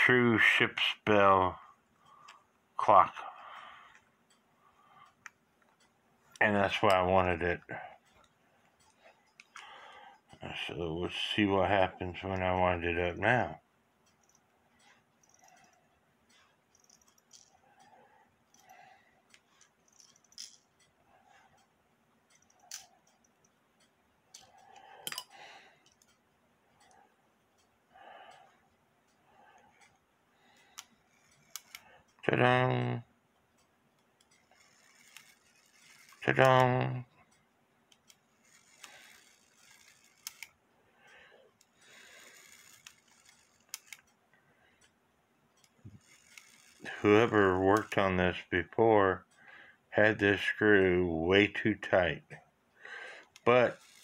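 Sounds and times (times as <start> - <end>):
faint metallic clock clicks: 1.0 - 11.5, 12.1 - 50.8.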